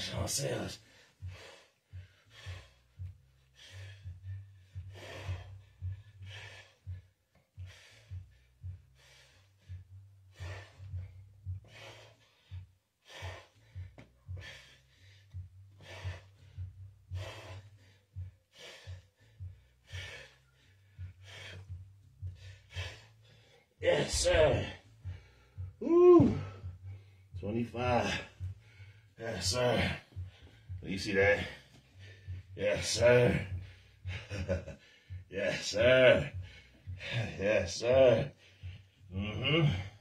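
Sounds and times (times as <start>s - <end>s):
man breathing hard: 0.0s - 40.0s.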